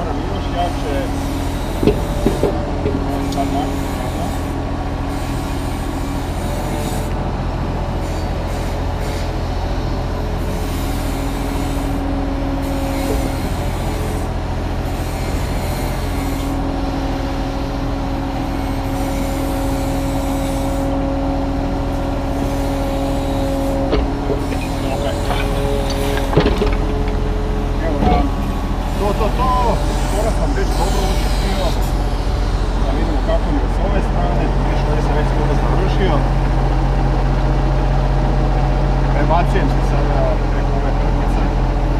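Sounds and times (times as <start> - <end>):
diesel engine running: 0.0 - 41.9
hydraulic whine: 0.0 - 41.9.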